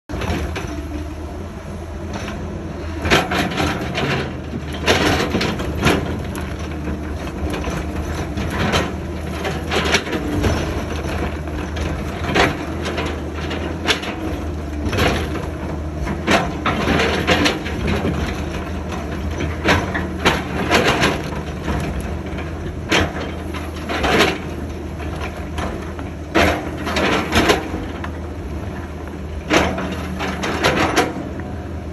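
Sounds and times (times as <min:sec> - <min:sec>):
excavator diesel engine running: 0:00.1 - 0:31.9
crunching and clanking impacts: 0:03.0 - 0:31.3.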